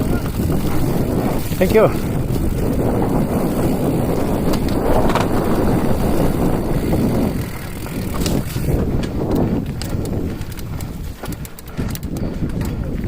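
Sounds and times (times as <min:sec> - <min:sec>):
vehicle noise: 0:00.0 - 0:13.0
wind buffeting microphone: 0:00.0 - 0:13.0.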